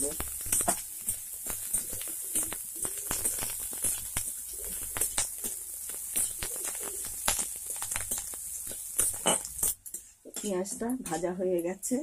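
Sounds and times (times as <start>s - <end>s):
onion frying in oil: 0.0s - 12.0s.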